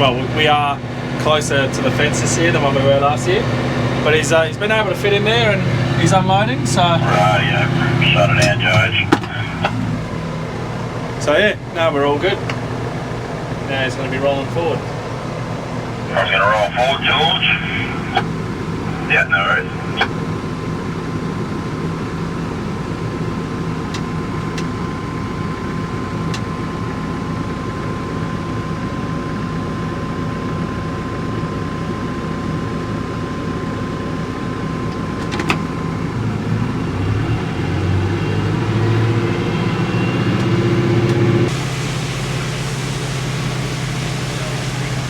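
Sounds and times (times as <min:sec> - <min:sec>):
farm vehicle engine idling: 0:00.0 - 0:45.0.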